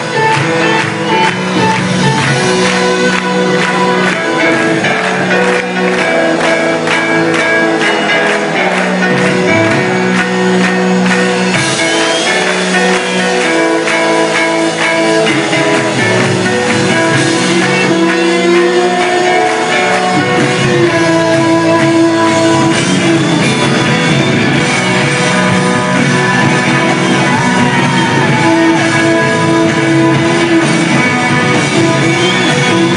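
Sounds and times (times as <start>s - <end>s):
electric guitar chords: 0.0s - 32.9s
live rock band: 0.0s - 32.9s
person singing: 0.0s - 32.9s.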